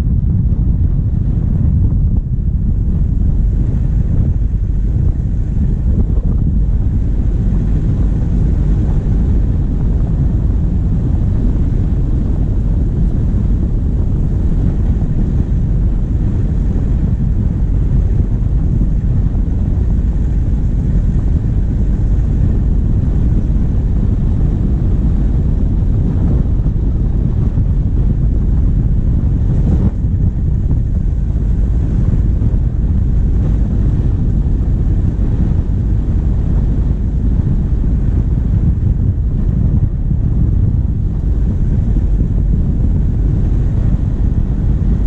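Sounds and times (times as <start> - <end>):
diesel engine running: 0.0 - 45.0
wind buffeting microphone: 0.0 - 45.0.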